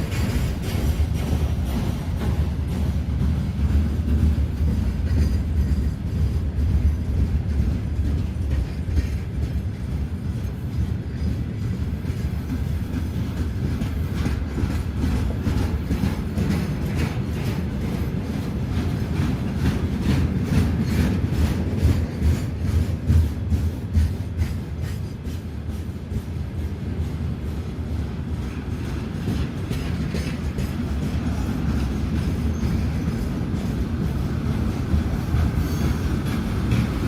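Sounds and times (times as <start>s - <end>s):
train rumbling past: 0.0s - 37.0s
wheels clacking over rail joints: 0.0s - 37.0s.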